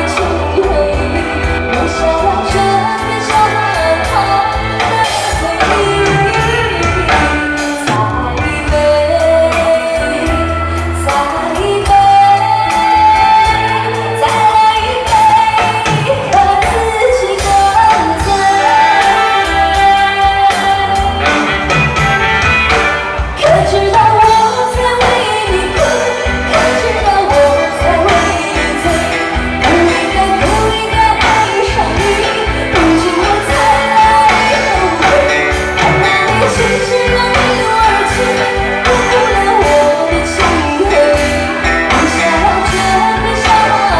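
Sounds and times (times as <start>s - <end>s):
drum and bass beat: 0.0s - 43.9s
person singing pop song: 0.0s - 43.9s.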